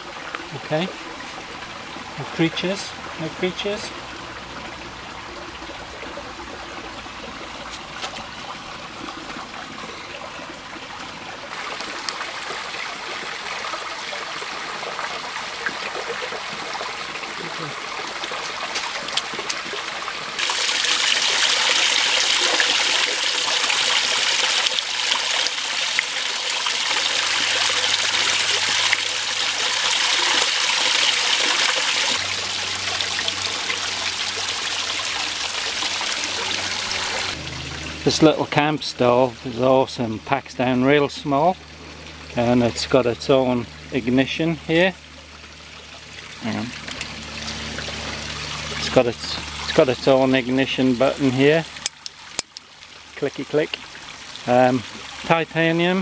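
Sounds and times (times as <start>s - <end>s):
creek water running: 0.0s - 56.0s.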